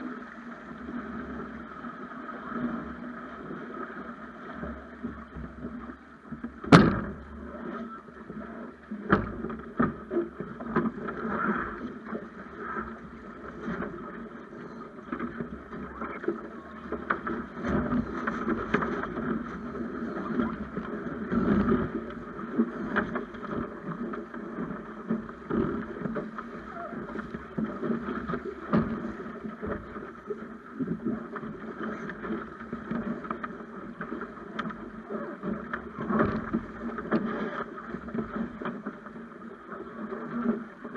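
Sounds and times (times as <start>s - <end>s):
water rushing along hull: 0.0s - 40.9s.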